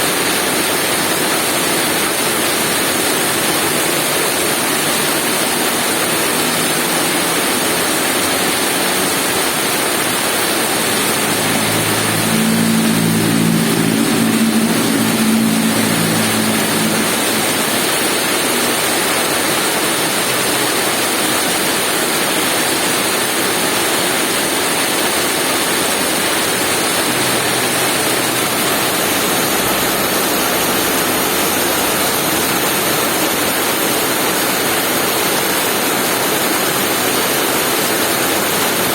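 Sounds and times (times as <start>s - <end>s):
heavy rain: 0.0s - 38.9s
vehicle engine hum: 0.0s - 38.9s.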